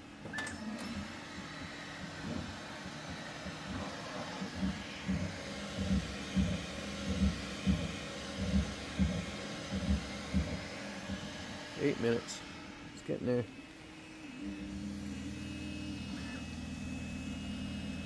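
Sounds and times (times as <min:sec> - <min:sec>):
fan hum: 0:00.0 - 0:18.0.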